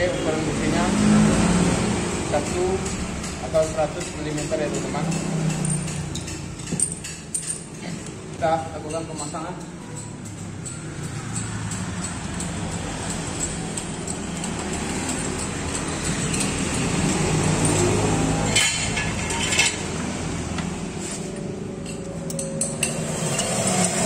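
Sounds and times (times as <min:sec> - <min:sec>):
metal hand tools clinking: 0:02.4 - 0:20.0, 0:21.1 - 0:24.0.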